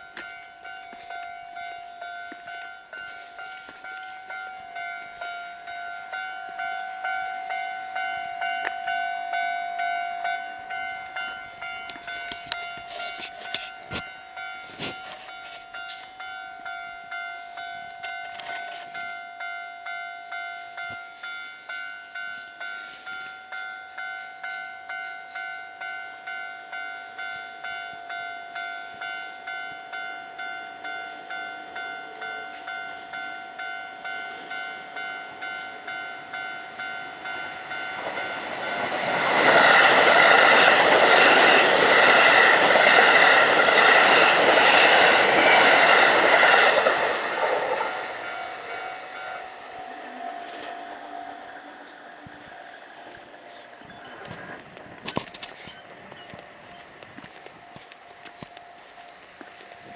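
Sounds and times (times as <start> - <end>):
level crossing warning bell: 0.0 - 59.9
train rumble and wheel clatter: 0.0 - 59.9.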